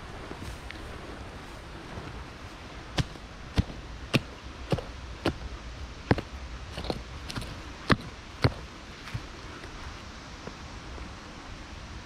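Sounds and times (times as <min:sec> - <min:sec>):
low wind noise: 0:00.0 - 0:12.0.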